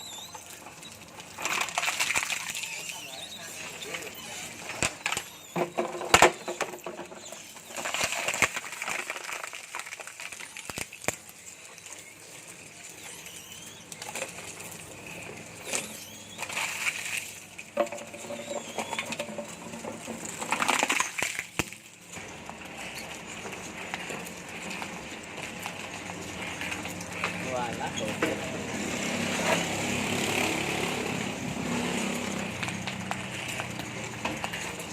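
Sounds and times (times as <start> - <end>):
shredder crunching plastic: 0.4 - 13.2, 13.9 - 34.9.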